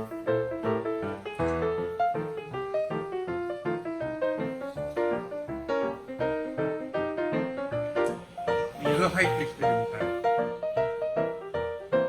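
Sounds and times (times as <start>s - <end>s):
lively piano music: 0.0s - 12.0s.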